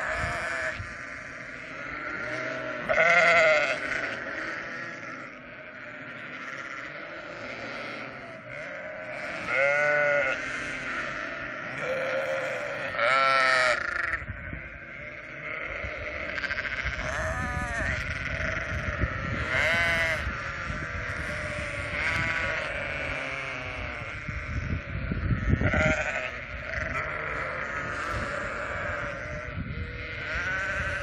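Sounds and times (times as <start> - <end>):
sheep bleating: 0.0 - 31.0.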